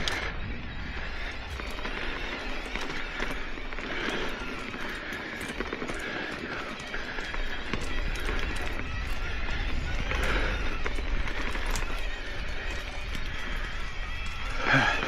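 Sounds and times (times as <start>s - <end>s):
bike clicks and rattles: 0.0s - 15.0s
rider breathing hard: 0.0s - 15.0s
tyres crunching on dirt and stones: 1.0s - 15.0s.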